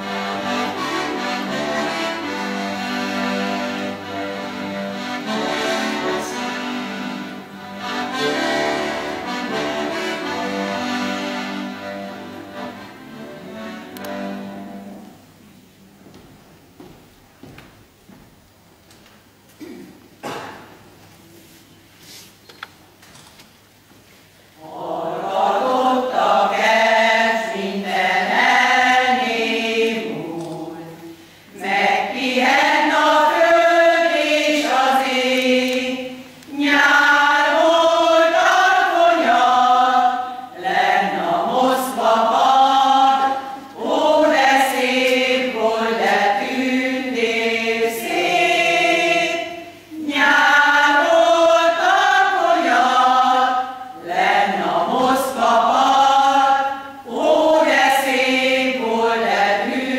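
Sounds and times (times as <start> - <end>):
women's choir singing: 0.0 - 15.1, 24.6 - 59.9.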